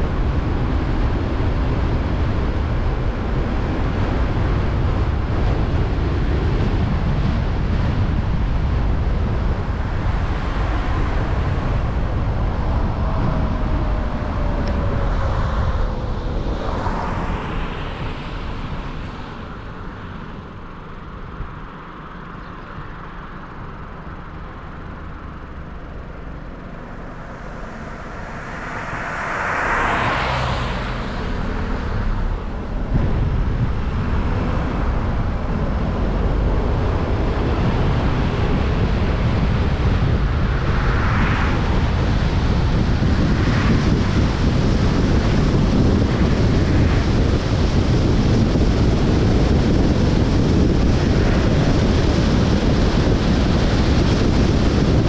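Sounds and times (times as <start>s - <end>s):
car tyre and wind noise: 0.0s - 55.0s
passing vehicles whooshing: 0.0s - 55.0s
wind buffeting microphone: 0.0s - 55.0s.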